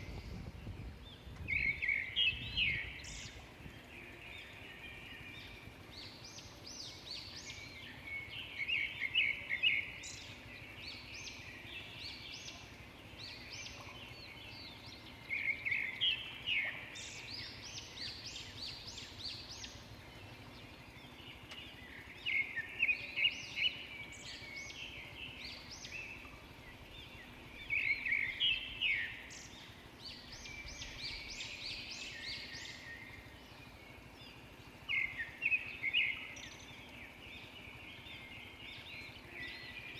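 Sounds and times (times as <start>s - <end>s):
chorus of bird chirps: 0.0s - 39.9s.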